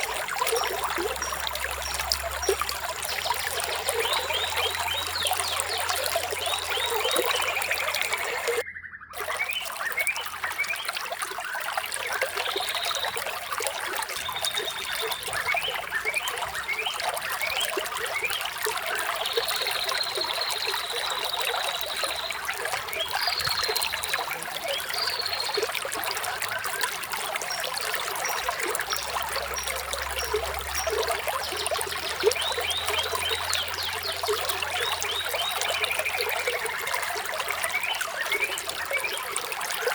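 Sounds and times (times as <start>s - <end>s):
water trickling: 0.0s - 8.6s, 9.2s - 39.9s
birds chirping: 0.0s - 39.9s.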